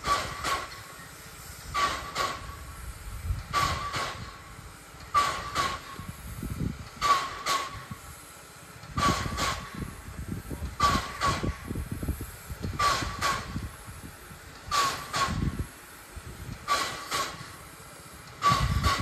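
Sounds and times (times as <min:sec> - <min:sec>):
low rumble of moving train: 0:00.0 - 0:19.0
steam locomotive exhaust chuffing: 0:00.0 - 0:19.0.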